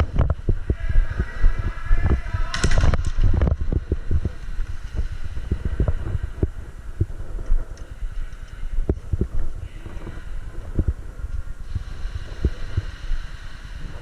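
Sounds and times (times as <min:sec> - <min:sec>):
low handling rumble: 0:00.0 - 0:14.0.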